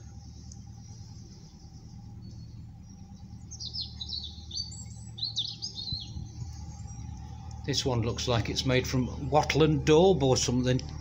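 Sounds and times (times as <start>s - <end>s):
songbird twittering: 0.0s - 9.8s
boat engine hum: 0.0s - 11.0s.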